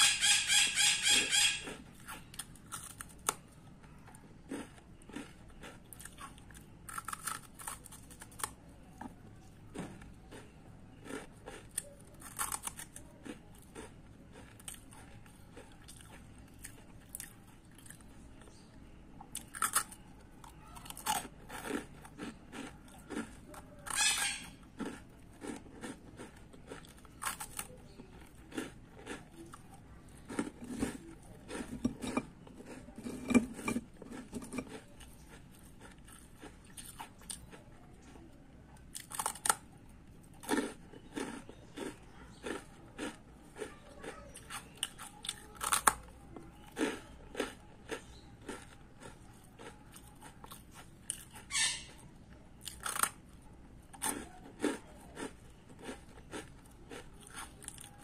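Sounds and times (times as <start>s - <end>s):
person crunching rusks: 0.8s - 18.6s, 19.3s - 38.2s, 38.8s - 58.0s.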